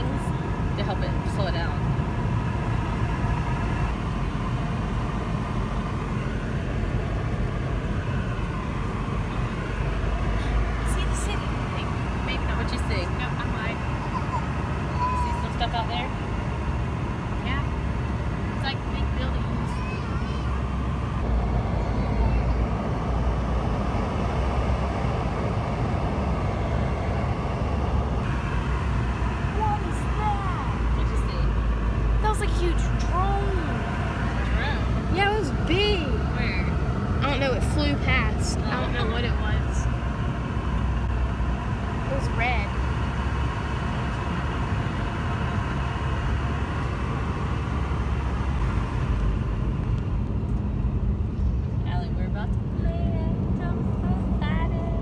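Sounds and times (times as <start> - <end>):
airliner cabin engine rush: 0.0 - 55.0.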